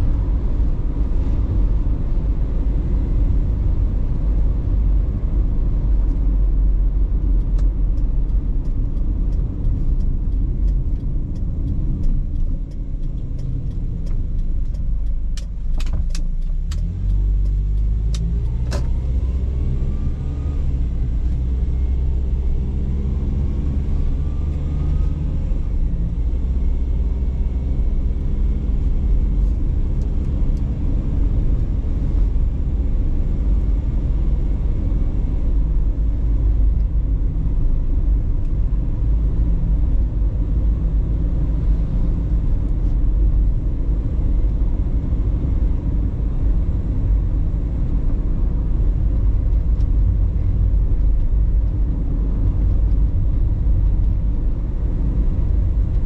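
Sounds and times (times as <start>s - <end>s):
car engine accelerating: 0.0s - 56.0s
road and tyre rumble: 0.0s - 56.0s.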